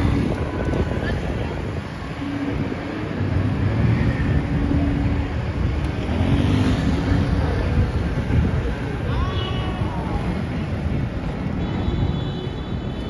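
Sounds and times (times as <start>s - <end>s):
rumble of passing cars and buses: 0.0s - 13.0s.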